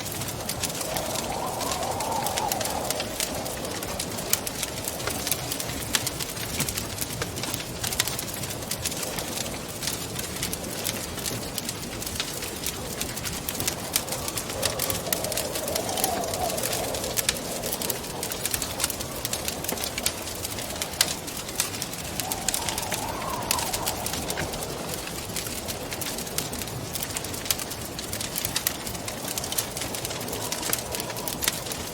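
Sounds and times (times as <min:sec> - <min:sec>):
wind rushing and howling: 0:00.0 - 0:31.9
wood fire crackling and popping: 0:00.0 - 0:31.9.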